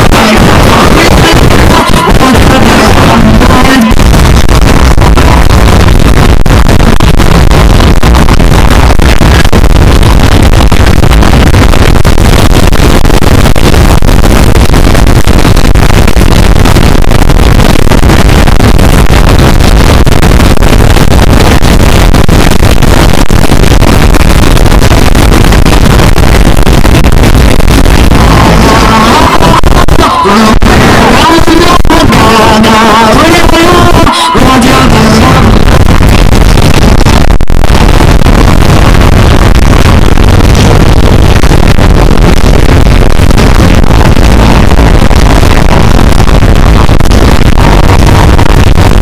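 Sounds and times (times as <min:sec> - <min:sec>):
distorted fireworks roar from loudspeakers: 0:00.0 - 0:49.0.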